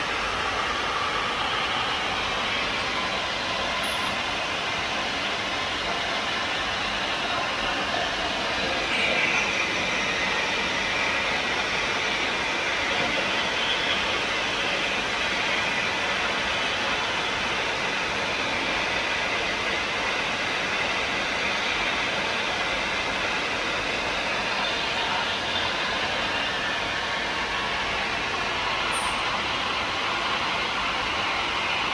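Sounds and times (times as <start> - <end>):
machine running with hiss: 0.0 - 31.9.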